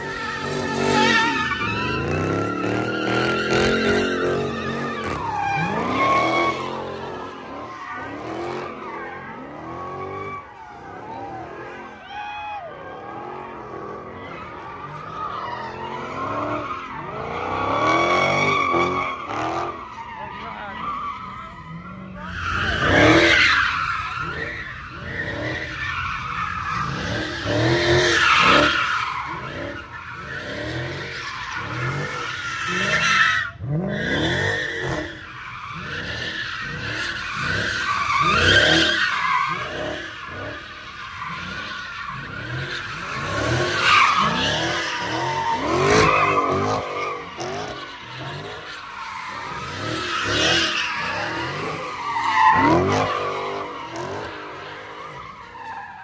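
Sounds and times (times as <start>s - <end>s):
tyres screeching: 0.0s - 12.0s, 13.6s - 56.0s
car engines revving: 0.0s - 56.0s.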